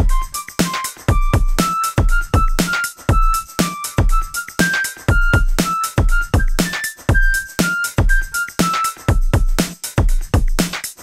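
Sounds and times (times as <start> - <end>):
electronic music: 0.0 - 9.7
drum machine beat: 0.0 - 11.0.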